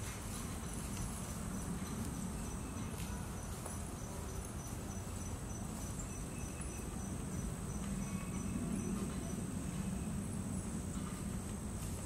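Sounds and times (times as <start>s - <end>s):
insects trilling: 0.6s - 11.8s.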